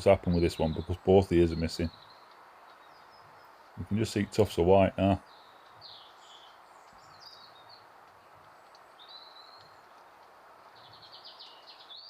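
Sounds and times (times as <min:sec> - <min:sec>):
faint bird calls: 0:00.0 - 0:12.0
steady outdoor background hiss: 0:00.0 - 0:12.0.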